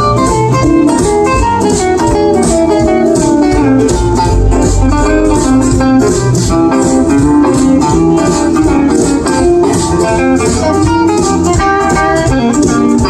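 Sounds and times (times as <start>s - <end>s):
lead guitar line: 0.0s - 13.0s
live jump-blues band playing: 0.0s - 13.0s.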